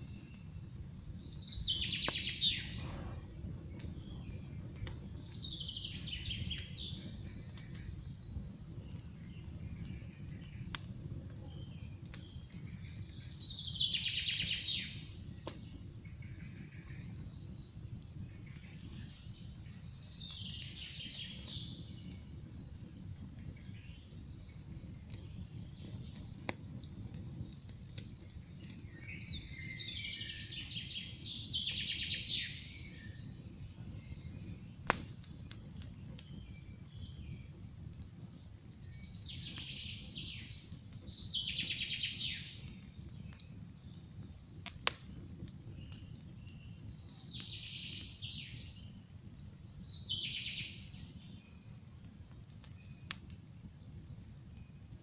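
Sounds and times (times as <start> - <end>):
campfire rumble and wood pops: 0.0 - 55.0.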